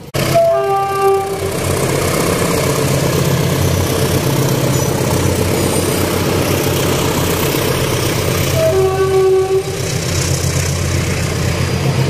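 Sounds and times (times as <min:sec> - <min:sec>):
diesel train engine rumble: 0:00.0 - 0:12.0
wheel and rail noise: 0:00.0 - 0:12.0.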